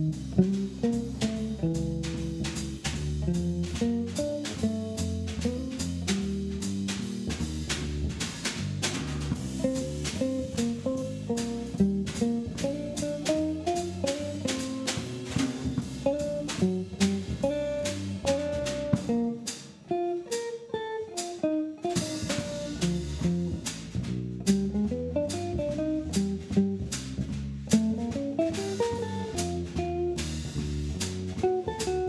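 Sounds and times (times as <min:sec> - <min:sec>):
bass guitar: 0:00.0 - 0:32.0
drum kit with cymbals: 0:00.0 - 0:32.0
jazz guitar melody: 0:00.0 - 0:32.0.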